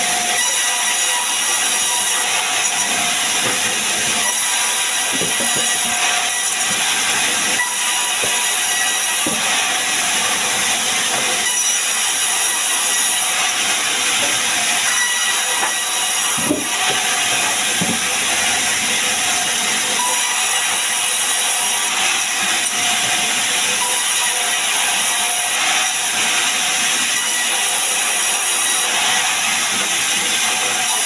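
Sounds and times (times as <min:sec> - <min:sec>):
band saw cutting log: 0:00.0 - 0:31.0.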